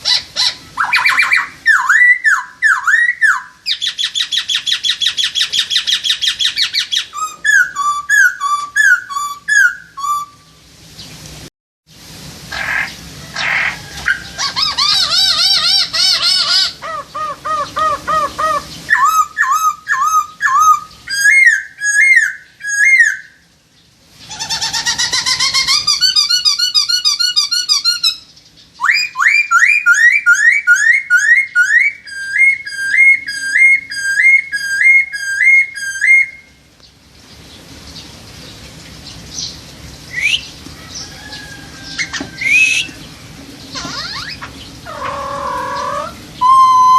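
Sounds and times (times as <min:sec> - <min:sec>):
songbirds whistling: 0:00.0 - 0:10.6, 0:12.5 - 0:23.4, 0:24.2 - 0:38.2, 0:39.1 - 0:46.9.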